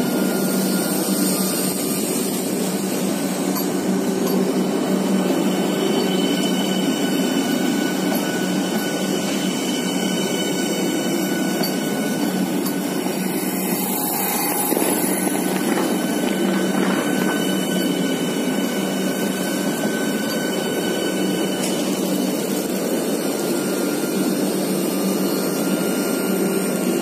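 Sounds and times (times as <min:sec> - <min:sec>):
rush of wheels on rail: 0:00.0 - 0:27.0
thin high tones: 0:00.2 - 0:26.9.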